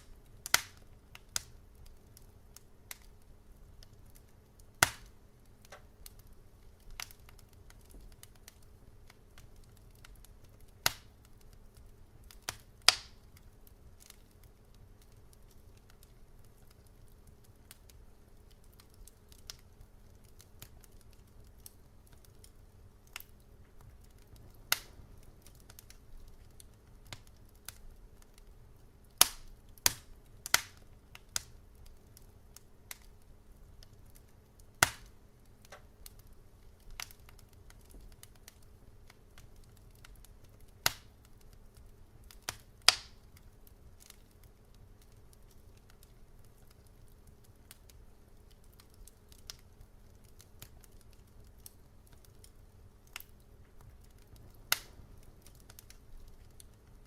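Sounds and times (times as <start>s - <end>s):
faint low rumble: 0.0s - 57.0s
wood fire crackling and popping: 0.0s - 57.0s.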